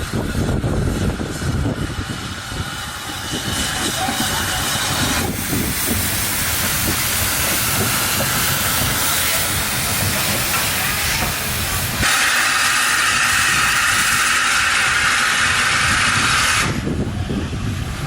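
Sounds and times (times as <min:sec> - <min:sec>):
steam locomotive hissing: 0:00.0 - 0:18.0.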